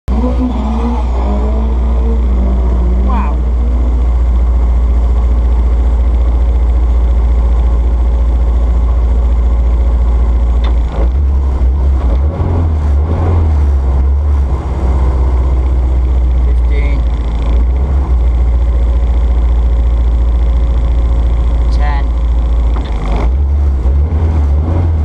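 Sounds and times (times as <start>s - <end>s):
car engine idling: 0.1s - 25.0s.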